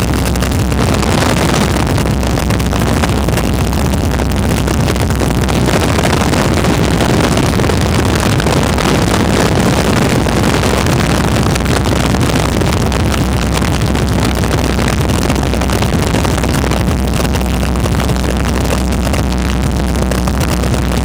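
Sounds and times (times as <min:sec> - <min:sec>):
plane engine and propeller: 0:00.0 - 0:21.0
wind rushing over microphone: 0:00.0 - 0:21.0.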